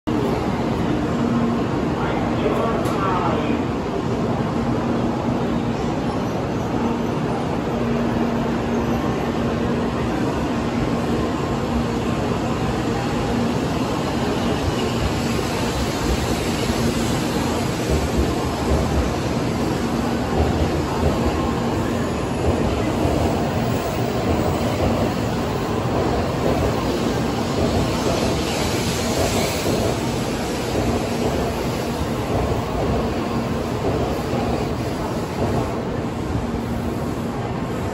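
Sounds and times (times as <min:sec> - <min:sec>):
train rumbling past slowly: 0:00.1 - 0:37.9.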